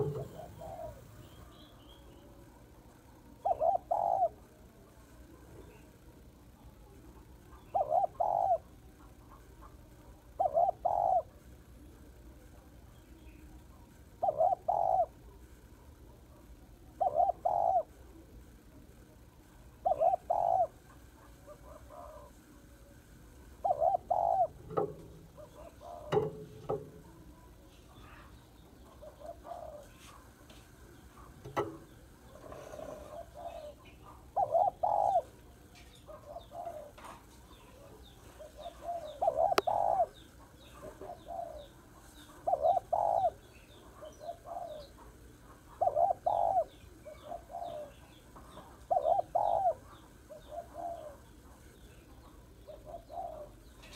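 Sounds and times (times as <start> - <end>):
dove cooing: 0.0 - 2.4, 3.2 - 4.6, 5.2 - 12.4, 13.1 - 15.4, 16.1 - 18.4, 19.7 - 22.8, 23.5 - 53.9
small birds chirping: 0.0 - 53.9.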